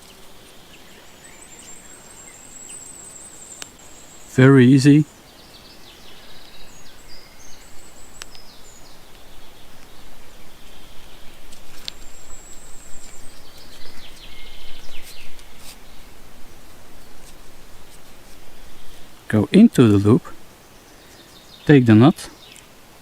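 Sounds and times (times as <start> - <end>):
birds singing: 0.0 - 22.8
outdoor hiss: 0.0 - 23.0.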